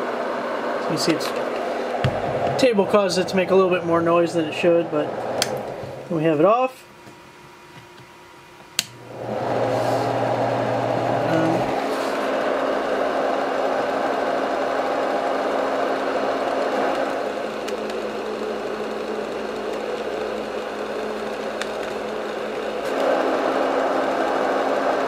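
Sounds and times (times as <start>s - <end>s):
fan white noise: 0.0s - 25.0s
low motor hum: 0.0s - 25.0s.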